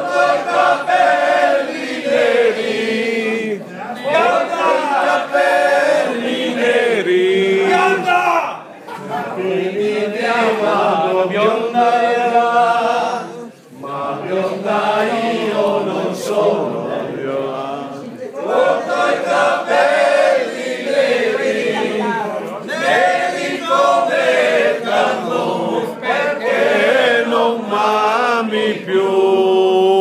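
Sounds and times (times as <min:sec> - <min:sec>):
group singing unaccompanied: 0:00.0 - 0:08.3, 0:08.9 - 0:30.0.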